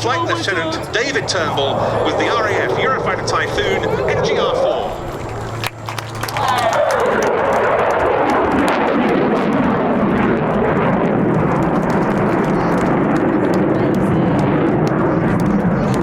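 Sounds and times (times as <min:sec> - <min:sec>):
fighter jet roar: 0:00.0 - 0:16.0.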